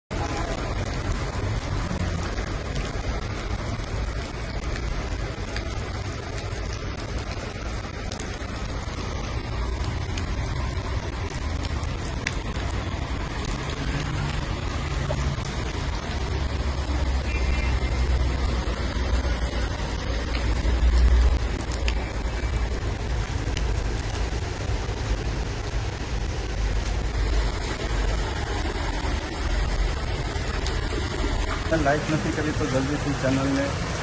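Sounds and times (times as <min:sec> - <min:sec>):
low traffic rumble: 0:00.1 - 0:34.0
steady rain: 0:00.1 - 0:34.0.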